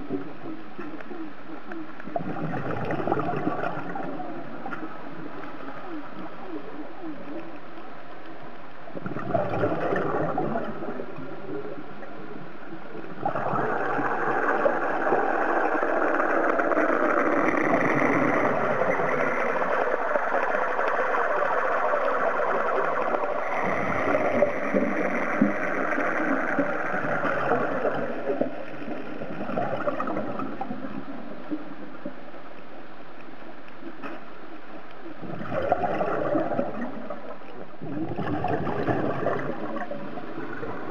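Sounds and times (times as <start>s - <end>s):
diver's exhaled bubbles underwater: 0.0s - 7.6s, 8.9s - 32.6s, 33.7s - 40.9s
steady underwater hiss: 0.0s - 40.9s.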